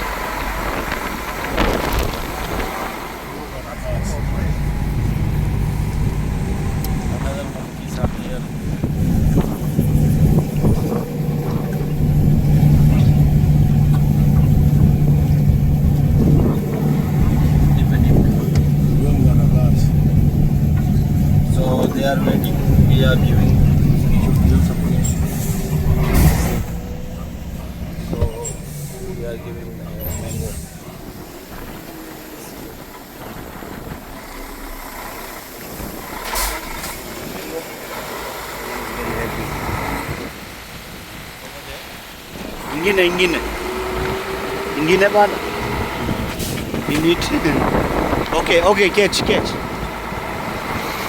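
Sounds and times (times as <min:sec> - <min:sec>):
car engine humming: 0:00.0 - 0:51.0.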